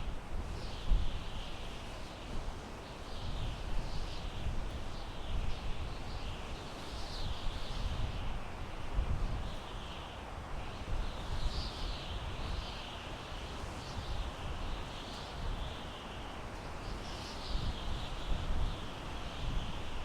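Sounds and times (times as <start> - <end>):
wind through pine trees: 0.0 - 20.0.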